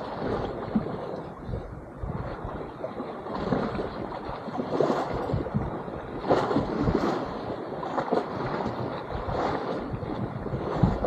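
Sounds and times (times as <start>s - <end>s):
sea water sloshing and splashing: 0.0s - 11.0s
wind on microphone: 0.0s - 11.0s.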